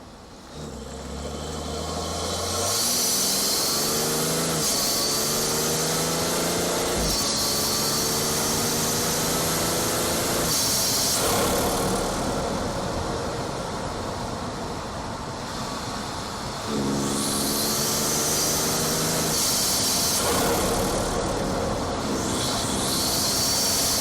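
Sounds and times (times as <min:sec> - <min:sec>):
car engine accelerating hard: 0:00.3 - 0:24.0
turbo and intake hiss: 0:01.6 - 0:24.0.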